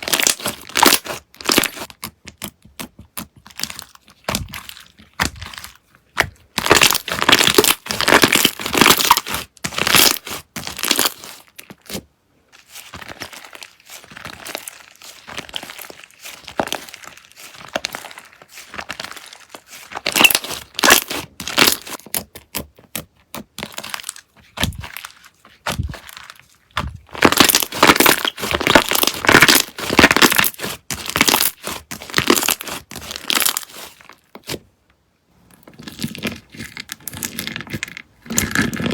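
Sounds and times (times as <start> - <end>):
slime squished by hand: 0.0 - 12.0, 12.6 - 34.6.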